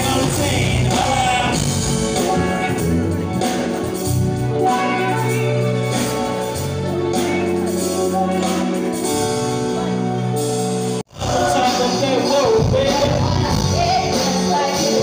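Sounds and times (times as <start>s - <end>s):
live band with singing: 0.0s - 15.0s.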